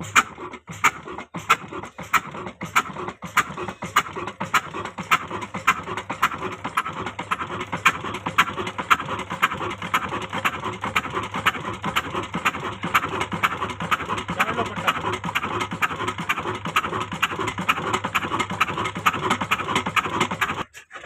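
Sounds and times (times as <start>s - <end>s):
diesel engine exhaust beating: 0.0s - 20.7s.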